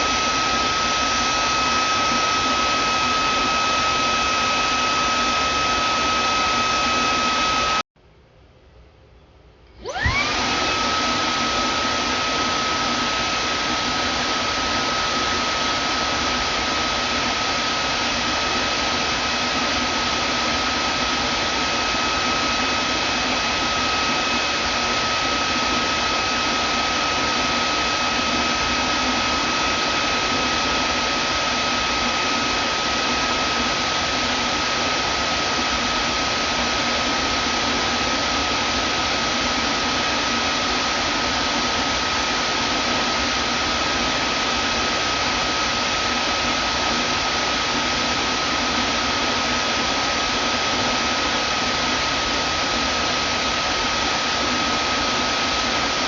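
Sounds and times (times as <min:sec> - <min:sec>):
vacuum cleaner running: 0:00.0 - 0:07.8, 0:09.7 - 0:56.0.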